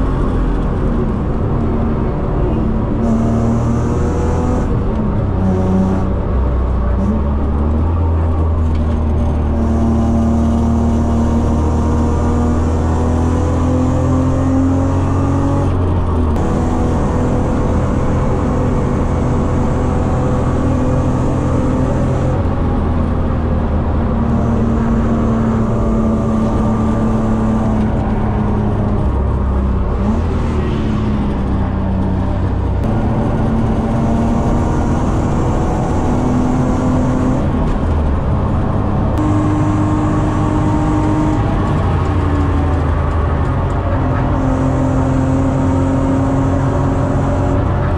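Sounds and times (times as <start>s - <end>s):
car engine at full throttle: 0.0s - 47.9s.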